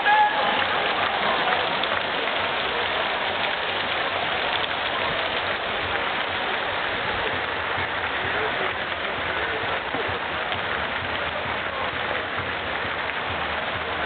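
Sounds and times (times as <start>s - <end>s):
crowd footsteps: 0.0s - 14.0s
crowd voices: 0.0s - 14.0s.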